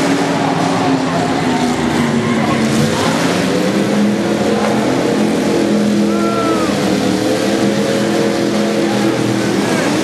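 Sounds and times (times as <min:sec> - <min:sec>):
demolition derby car engines revving: 0:00.0 - 0:10.0.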